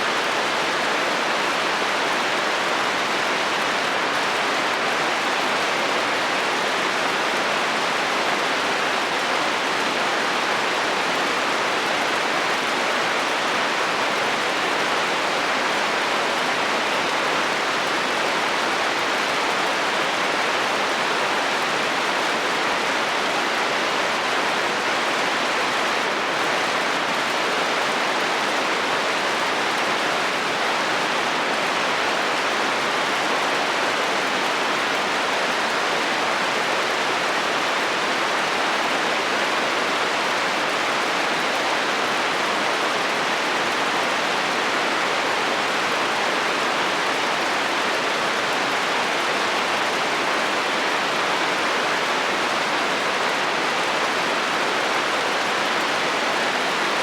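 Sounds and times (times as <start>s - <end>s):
rain on a metal roof: 0.0s - 57.0s.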